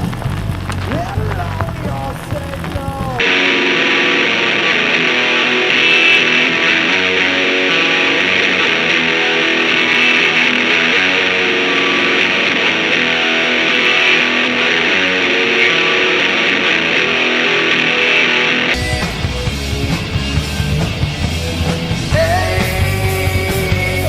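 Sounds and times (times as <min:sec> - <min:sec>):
distorted electric guitar strumming: 0:00.0 - 0:24.0.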